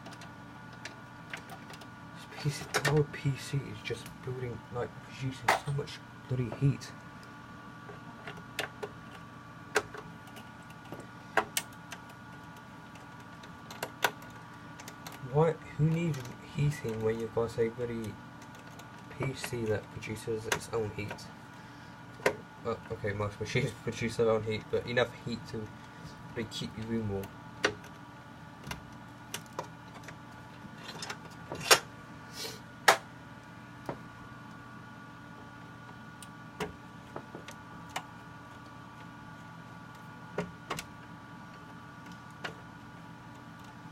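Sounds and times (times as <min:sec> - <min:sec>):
steady electrical hum: 0:00.0 - 0:43.9.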